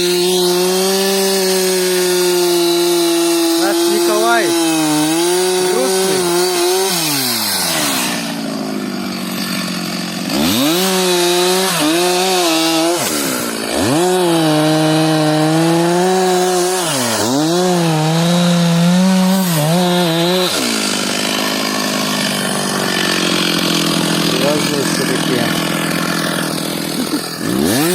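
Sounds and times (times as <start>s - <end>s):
chainsaw revving and cutting timber: 0.0s - 27.9s.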